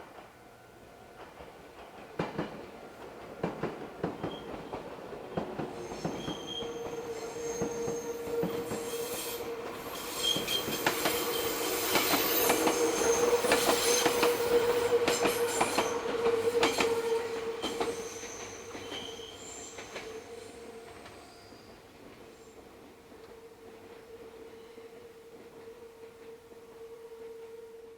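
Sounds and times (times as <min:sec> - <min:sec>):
train wheels squealing: 0:04.2 - 0:04.8, 0:05.6 - 0:27.9.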